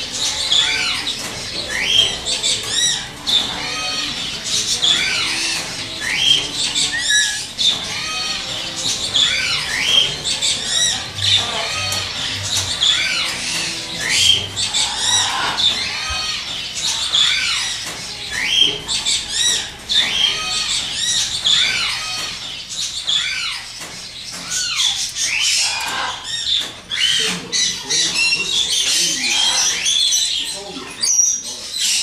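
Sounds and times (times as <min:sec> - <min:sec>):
parrots squawking: 0:00.0 - 0:32.0.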